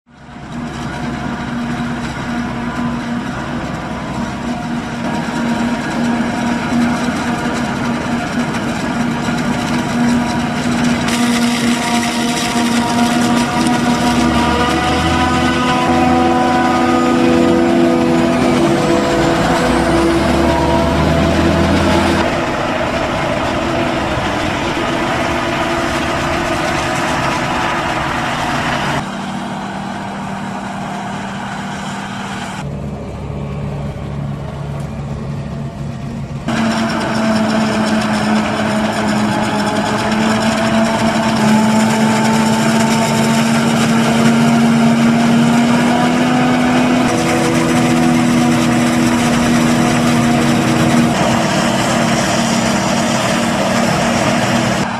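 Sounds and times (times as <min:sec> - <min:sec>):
farm machinery diesel engines: 0:00.1 - 0:54.9.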